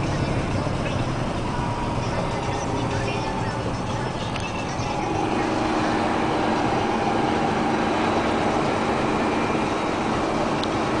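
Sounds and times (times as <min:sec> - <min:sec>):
diesel truck engine running: 0:00.0 - 0:11.0
steady hum: 0:00.4 - 0:11.0.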